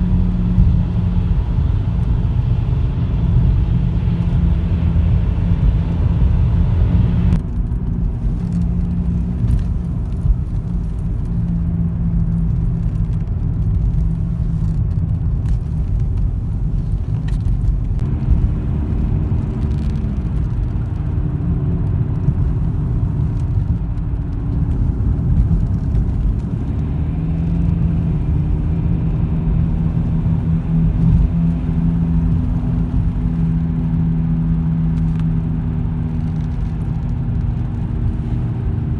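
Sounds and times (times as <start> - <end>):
tyre and engine rumble: 0.0 - 38.9.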